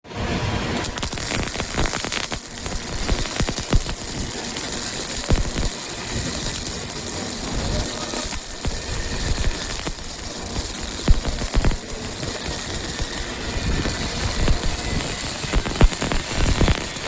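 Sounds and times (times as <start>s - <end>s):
heavy machinery running: 0.2s - 17.0s
constant hiss: 0.3s - 17.0s.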